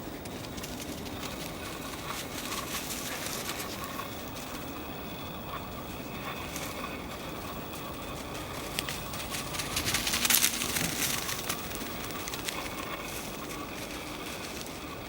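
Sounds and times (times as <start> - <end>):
steady outdoor hiss: 0.0 - 15.0
footsteps crunching on forest floor: 0.2 - 15.0.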